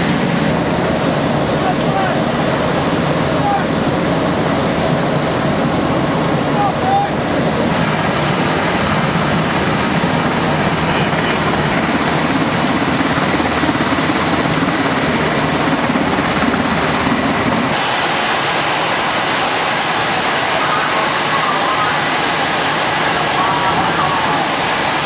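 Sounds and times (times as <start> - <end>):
aircraft engines running: 0.0 - 25.0
high turbine whine: 0.0 - 25.0.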